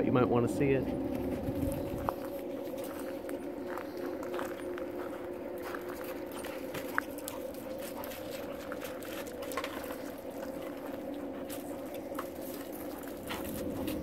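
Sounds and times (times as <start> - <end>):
low machine hum: 0.0 - 14.0
dog paws on gravel: 0.5 - 14.0.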